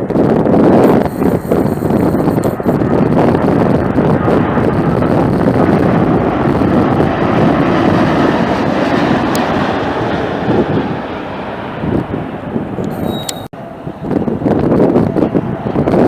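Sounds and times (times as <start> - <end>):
jet airliner engine roar: 0.0 - 16.0
wind buffeting microphone: 0.0 - 16.0.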